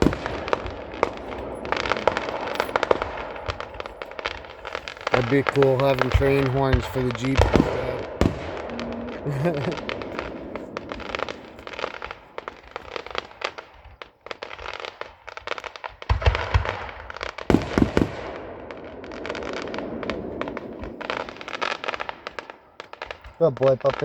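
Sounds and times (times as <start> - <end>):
fireworks booms: 0.0 - 24.0
fireworks crackling: 0.0 - 24.0.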